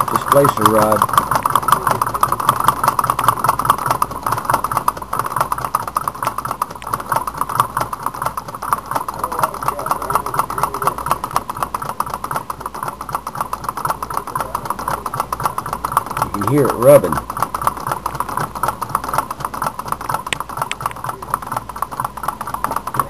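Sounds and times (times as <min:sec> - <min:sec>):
pulsing rub of engine rod: 0:00.0 - 0:23.0
stirling engine ticking: 0:00.0 - 0:23.0.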